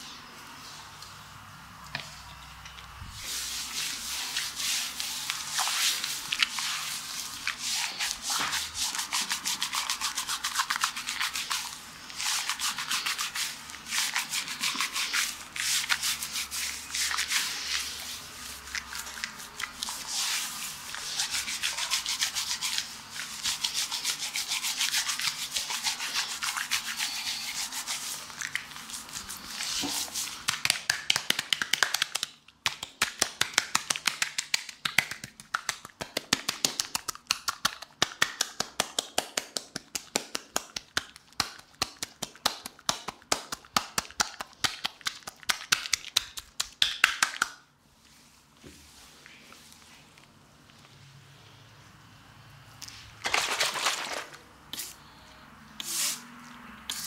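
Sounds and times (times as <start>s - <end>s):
hands rubbing scrub on skin: 3.2s - 50.0s.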